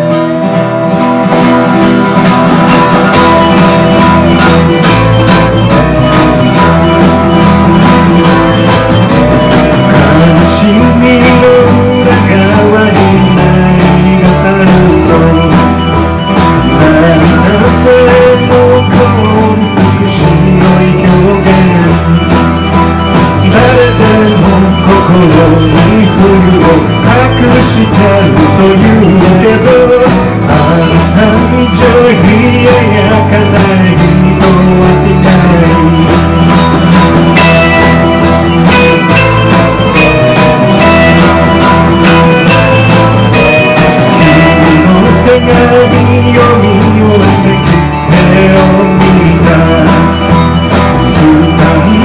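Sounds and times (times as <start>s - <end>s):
pop-rock band playing: 0.0s - 52.0s.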